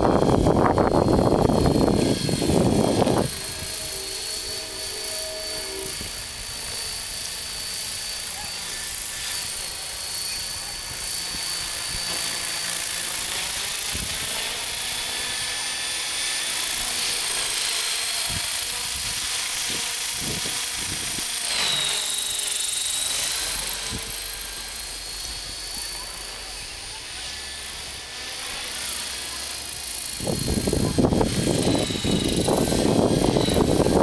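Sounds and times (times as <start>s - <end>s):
model helicopter whine: 0.0s - 34.0s.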